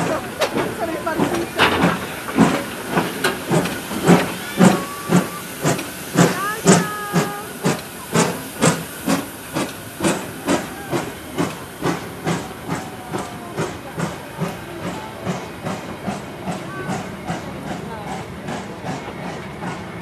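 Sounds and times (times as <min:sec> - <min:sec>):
steam hissing: 0:00.0 - 0:20.0
steam locomotive chuffing: 0:00.0 - 0:20.0.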